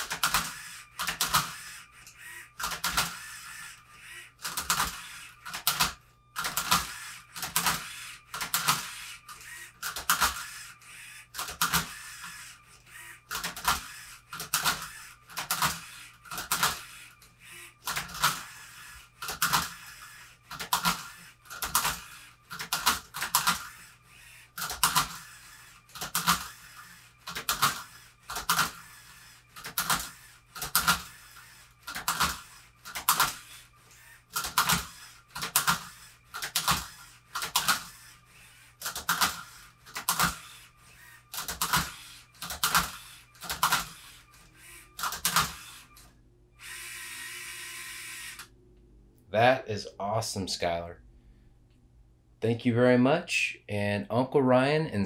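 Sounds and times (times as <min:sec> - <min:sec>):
robot motors whirring: 0:00.0 - 0:48.5.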